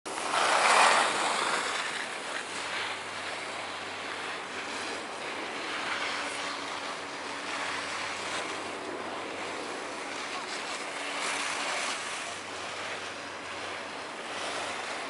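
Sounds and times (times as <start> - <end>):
skis scraping over packed snow: 0.1 - 15.0.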